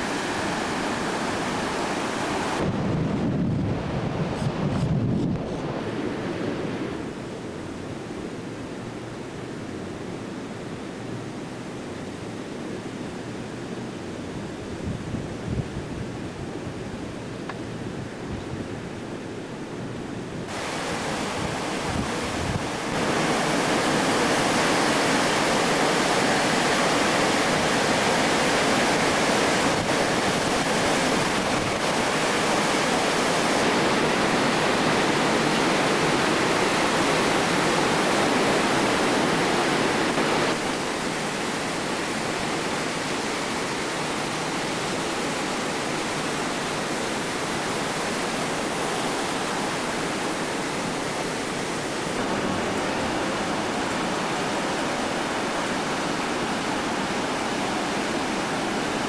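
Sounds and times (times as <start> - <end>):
ocean surf rushing: 0.0 - 59.0
wind on microphone: 0.0 - 59.0.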